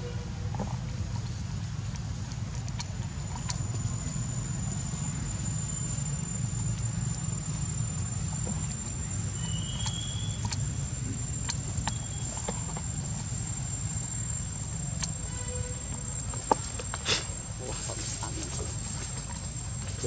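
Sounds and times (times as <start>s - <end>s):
thin high whine: 2.9s - 20.0s.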